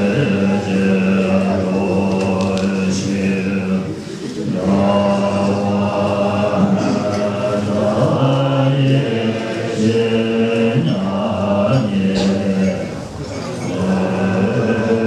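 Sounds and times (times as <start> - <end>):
monks chanting in low voices: 0.0 - 15.0.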